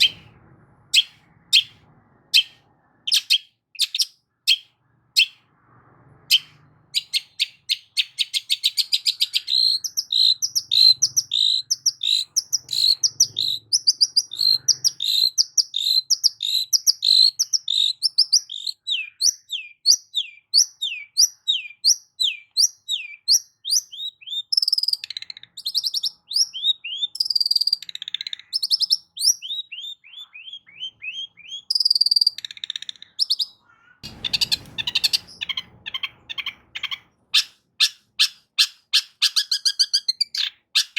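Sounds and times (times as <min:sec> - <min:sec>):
harsh buzzy bird calls: 0:00.0 - 0:05.5, 0:06.3 - 0:40.9
bird chirping song: 0:00.0 - 0:40.9.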